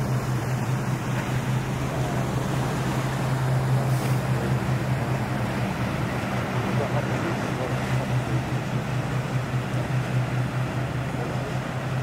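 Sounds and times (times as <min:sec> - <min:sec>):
boat engines humming: 0:00.0 - 0:12.0
water wash hiss: 0:00.0 - 0:12.0
wind: 0:00.0 - 0:12.0.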